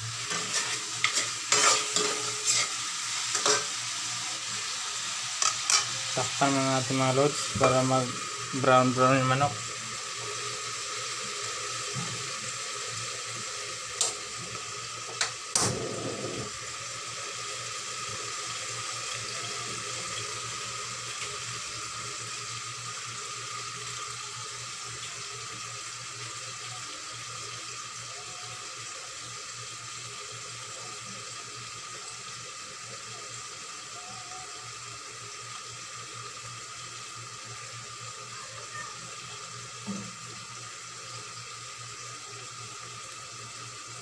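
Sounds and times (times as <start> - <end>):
chicken frying in hot oil: 0.0 - 44.0.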